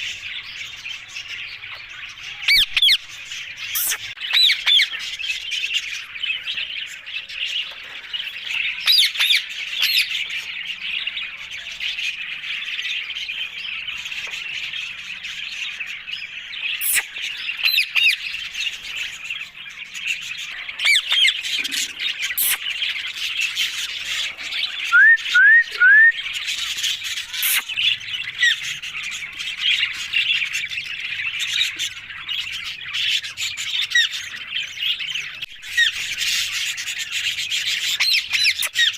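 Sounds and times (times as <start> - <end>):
parakeets squawking and chattering: 0.0 - 38.9.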